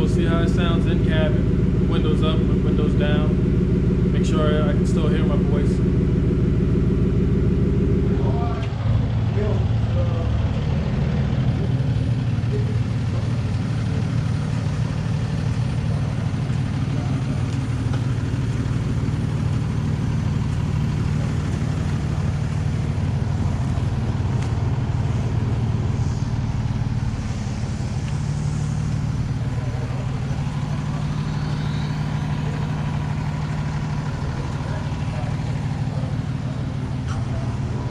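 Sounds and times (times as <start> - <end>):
truck engine exhaust rumbling: 0.0 - 37.9.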